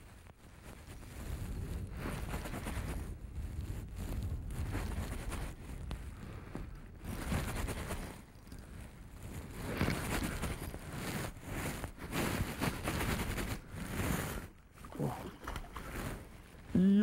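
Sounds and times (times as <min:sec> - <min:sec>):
rustling: 0:00.0 - 0:16.8
wind buffeting microphone: 0:00.8 - 0:16.7.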